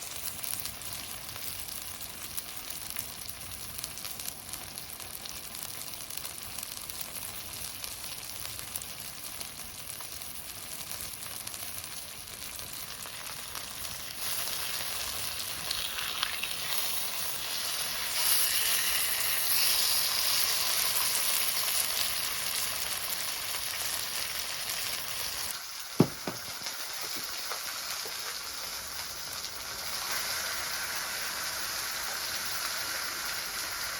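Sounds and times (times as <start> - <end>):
wood fire sizzling and crackling: 0.0 - 33.9.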